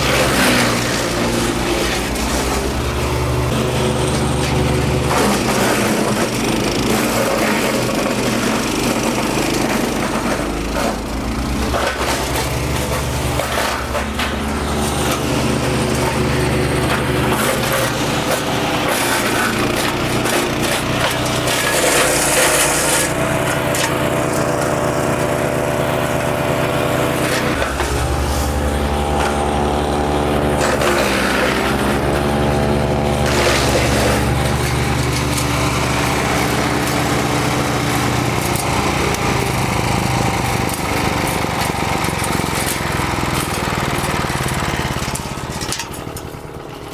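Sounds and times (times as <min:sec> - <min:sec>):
wood chipper engine drone: 0:00.0 - 0:46.9.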